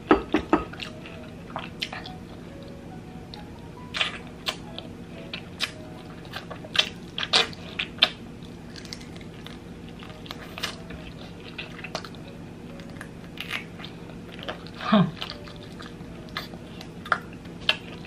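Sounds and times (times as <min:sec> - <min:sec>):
chewing crispy fried chicken: 0:00.7 - 0:18.0.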